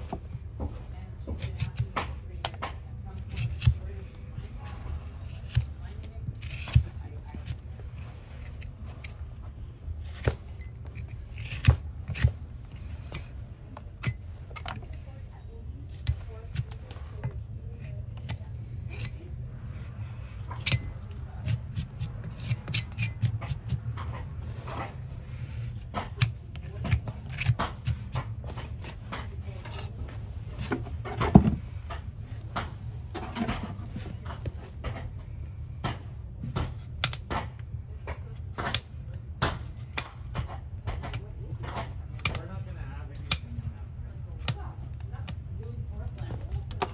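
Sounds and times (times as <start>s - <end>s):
tool scraping horse hoof: 0.0s - 43.6s.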